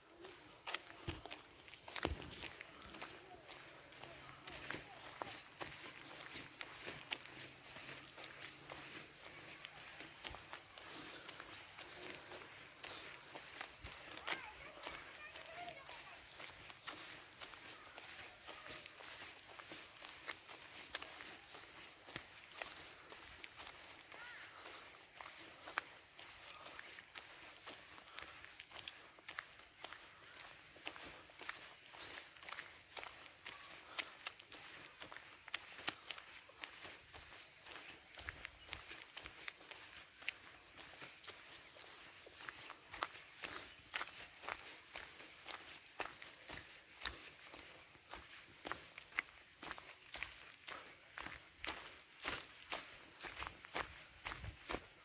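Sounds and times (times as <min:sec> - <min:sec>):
footsteps walking outdoors: 0:00.0 - 0:55.0
insect chorus: 0:00.0 - 0:55.0.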